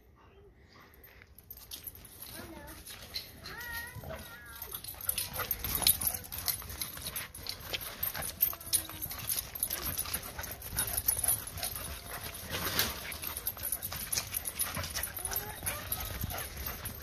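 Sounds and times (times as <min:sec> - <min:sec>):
dog paws running on concrete: 0:01.6 - 0:17.0.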